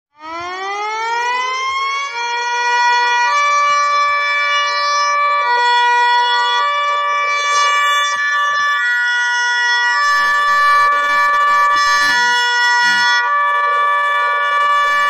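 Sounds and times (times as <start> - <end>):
siren wail: 0.1 - 15.0.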